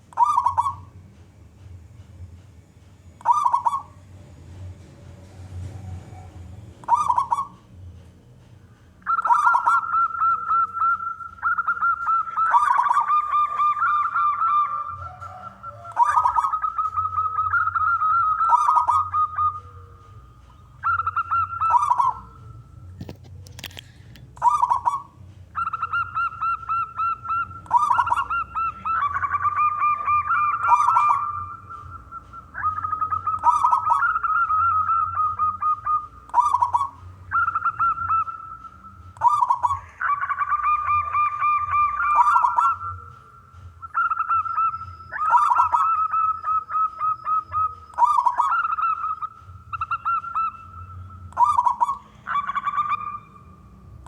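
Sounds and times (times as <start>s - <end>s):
dove cooing in trills: 0.0s - 1.0s, 3.2s - 4.2s, 5.3s - 7.8s, 9.0s - 54.0s.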